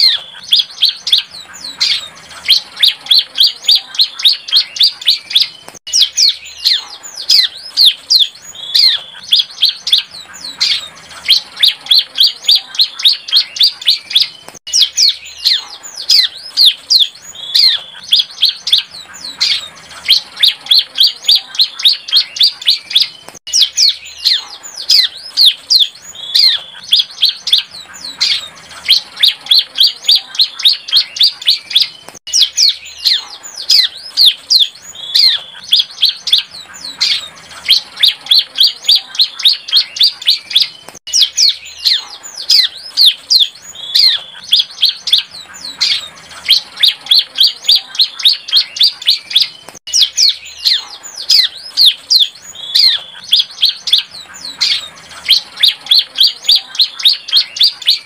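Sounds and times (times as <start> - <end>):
bird singing fast chirps: 0.0 - 58.0.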